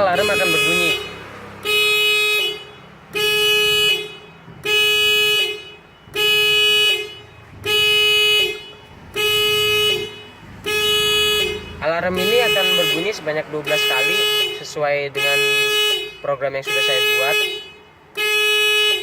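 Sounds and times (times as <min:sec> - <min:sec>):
car alarm horn blasts: 0:00.0 - 0:19.0.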